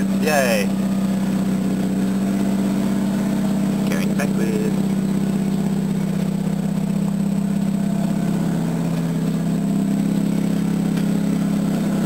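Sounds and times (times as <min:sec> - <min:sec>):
rotary engine droning: 0:00.0 - 0:12.0.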